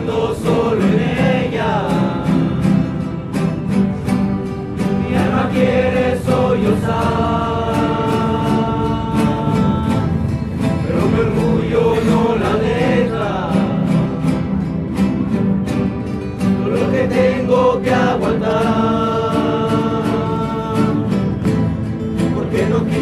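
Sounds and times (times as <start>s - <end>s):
group of voices singing: 0.0s - 23.0s
guitars strummed briskly: 0.0s - 23.0s.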